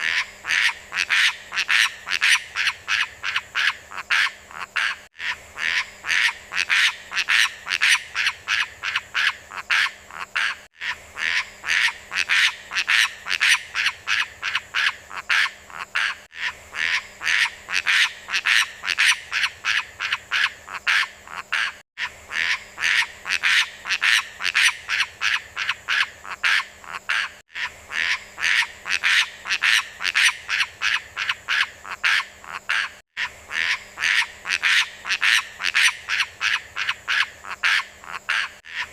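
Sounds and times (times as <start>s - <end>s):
bird giving rapid repeated calls: 0.0s - 38.9s.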